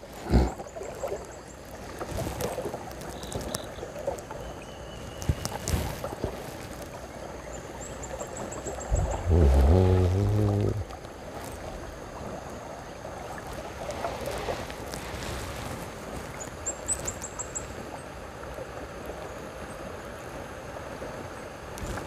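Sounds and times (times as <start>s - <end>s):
river water running around kayak: 0.0s - 22.0s.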